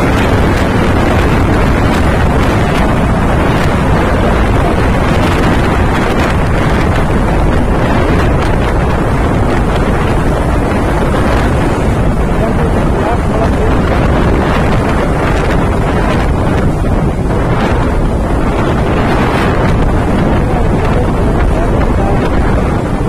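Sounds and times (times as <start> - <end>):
motorcycle running: 0.0 - 23.0
wind buffeting microphone: 0.0 - 23.0.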